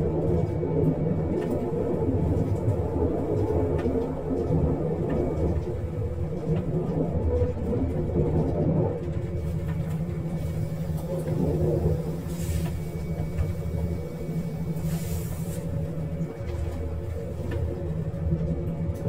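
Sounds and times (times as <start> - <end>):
diesel railcar engine rumble: 0.0 - 19.0.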